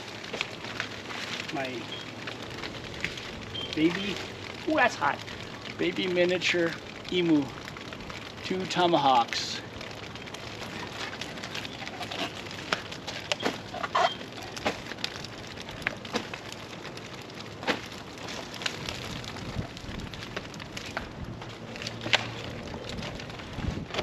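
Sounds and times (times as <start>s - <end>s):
leaves crackling on hot stones: 0.0s - 24.0s.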